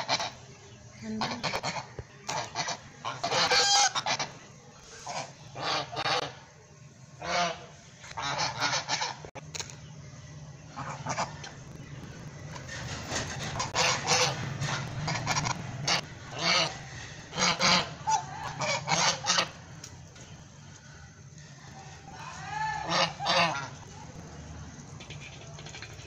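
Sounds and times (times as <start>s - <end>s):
geese honking: 0.0s - 9.4s, 10.6s - 26.0s
steady low hum: 0.0s - 26.0s.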